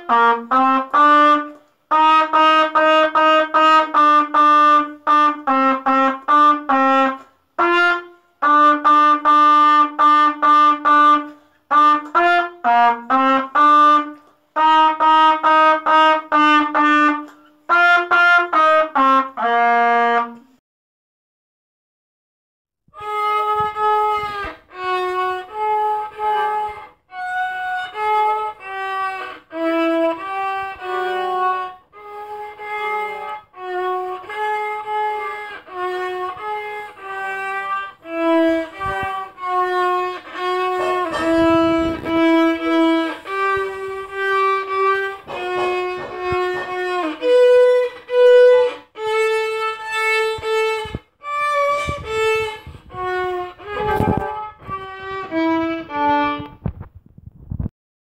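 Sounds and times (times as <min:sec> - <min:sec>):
solo violin melody: 0:00.0 - 0:20.4, 0:22.9 - 0:56.8.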